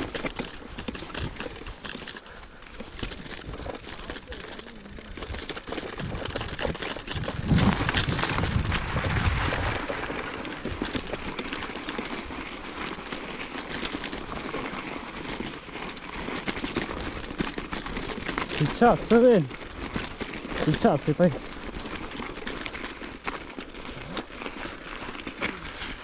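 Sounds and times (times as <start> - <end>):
bike tyres crunching on gravel: 0.0 - 26.0.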